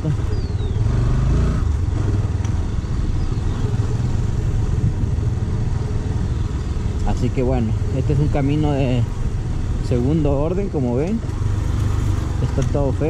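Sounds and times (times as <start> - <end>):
motorcycle engine running: 0.0 - 13.0
wind and road rumble: 0.0 - 13.0.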